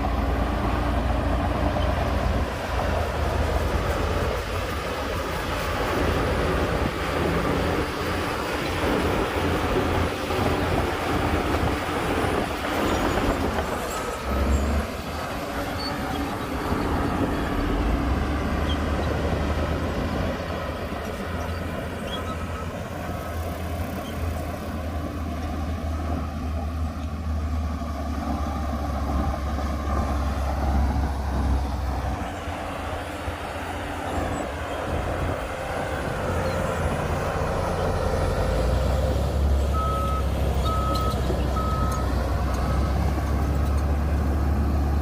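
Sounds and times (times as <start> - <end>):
heavy machinery engine rumble: 0.0 - 45.0.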